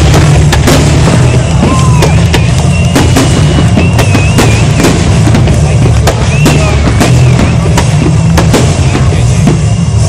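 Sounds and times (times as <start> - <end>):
continuous loud rumble: 0.0 - 10.0
firework shells bursting: 0.0 - 10.0
wavering firework whistle: 0.0 - 10.0.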